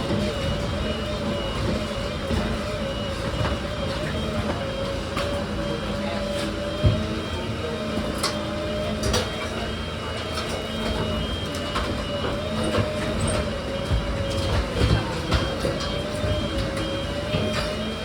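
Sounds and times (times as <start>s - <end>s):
machine motor whine: 0.0s - 18.0s.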